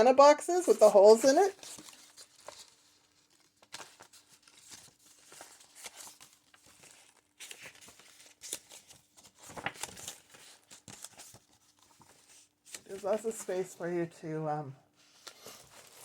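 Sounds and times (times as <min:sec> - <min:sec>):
paper rustling and crinkling: 0:00.6 - 0:13.8, 0:14.9 - 0:16.0.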